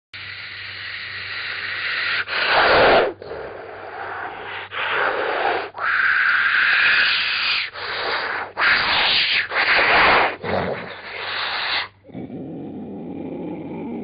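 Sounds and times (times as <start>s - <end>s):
person making breathy hisses: 0.2s - 12.1s.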